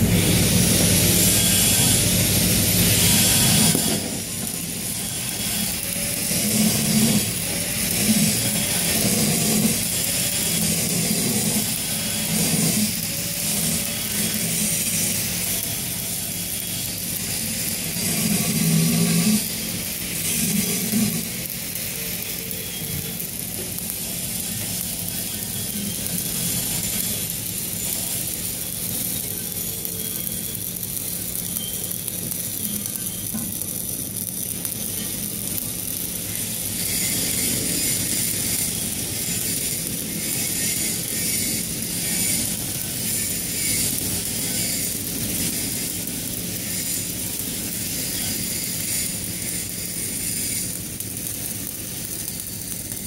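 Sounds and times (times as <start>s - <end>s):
welding arc crackling: 0.0s - 53.0s.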